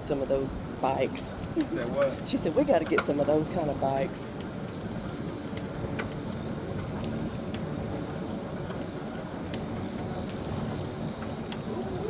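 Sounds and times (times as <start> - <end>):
wind and tyre noise: 0.0 - 12.0.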